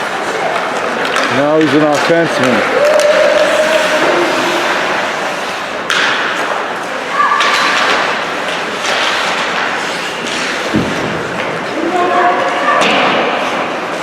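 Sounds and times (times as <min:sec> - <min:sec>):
spectators chatter echoing: 0:00.0 - 0:14.0.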